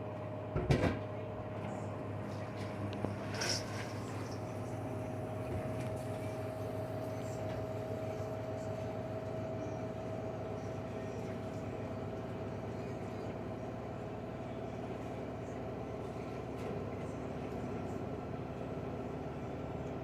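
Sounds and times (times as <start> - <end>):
washing machine spinning: 0.0 - 19.9.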